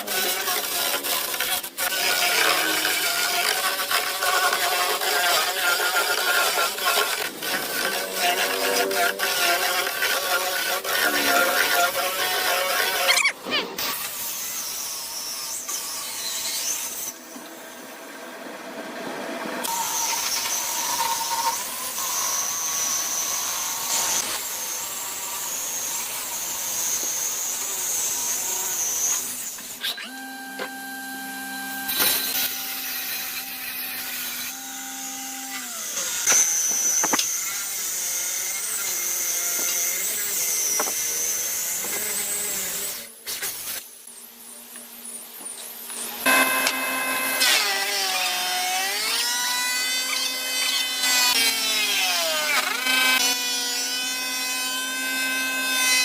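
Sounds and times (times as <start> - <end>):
power tool motor whine: 0.0 - 17.2, 19.6 - 56.0.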